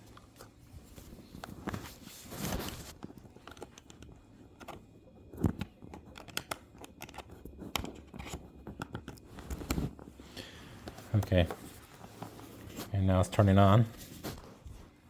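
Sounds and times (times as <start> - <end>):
hands handling cable and device: 0.0 - 12.9.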